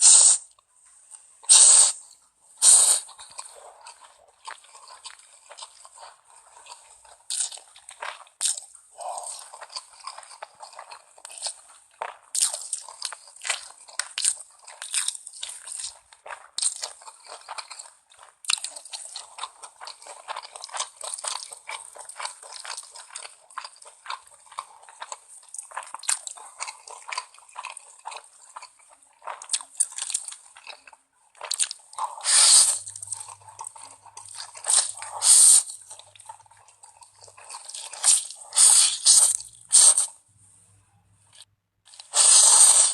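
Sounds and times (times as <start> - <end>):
wet chewing and mouth smacks: 3.0 - 40.1.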